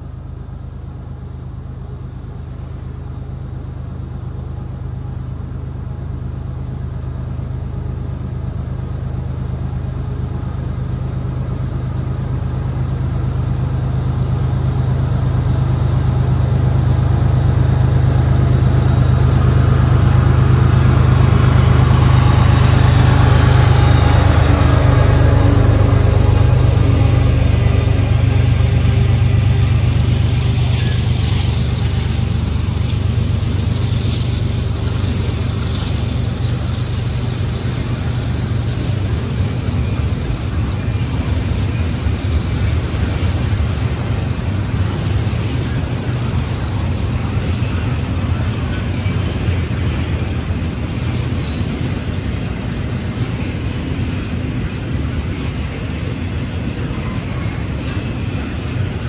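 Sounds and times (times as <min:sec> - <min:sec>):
diesel locomotive rumble: 0:00.0 - 0:59.0
railcars rolling: 0:00.0 - 0:59.0.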